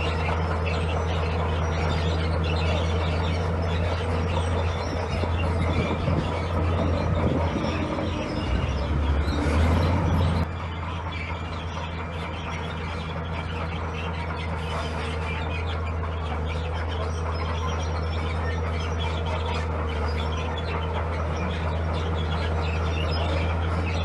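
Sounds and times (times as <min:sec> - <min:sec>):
earthmoving machine engine running: 0:00.0 - 0:24.0.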